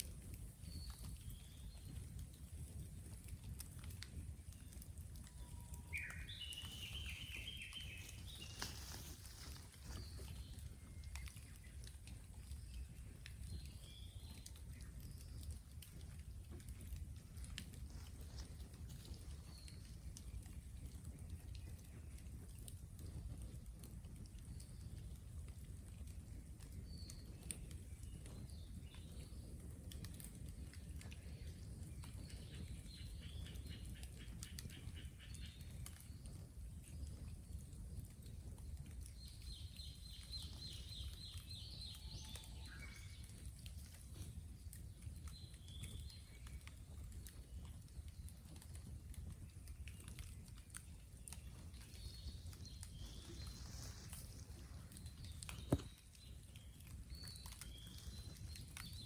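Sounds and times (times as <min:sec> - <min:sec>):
bonfire crackling: 0:00.0 - 0:59.0
small birds chirping: 0:00.0 - 0:59.0.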